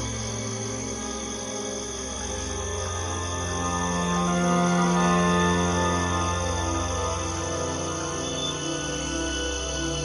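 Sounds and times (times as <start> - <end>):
ambient drone music: 0.0 - 10.0.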